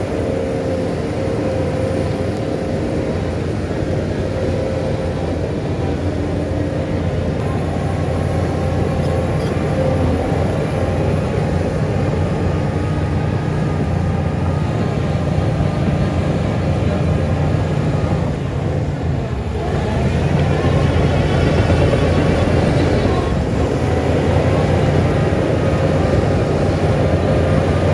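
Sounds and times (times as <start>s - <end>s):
heavy diesel engine droning: 0.0s - 27.9s.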